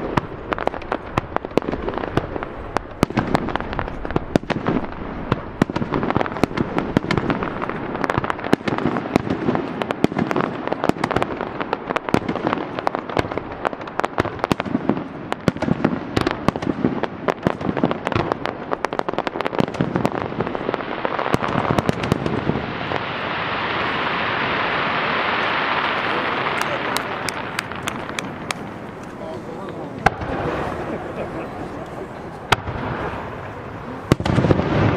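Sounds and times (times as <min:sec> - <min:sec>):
fireworks cracking and popping: 0:00.0 - 0:34.9
fireworks crackling hiss: 0:00.0 - 0:34.9.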